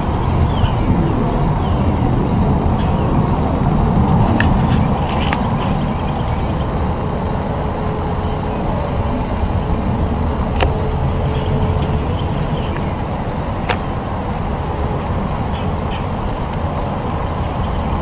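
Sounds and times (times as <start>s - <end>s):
low rumbling drone: 0.0s - 18.0s.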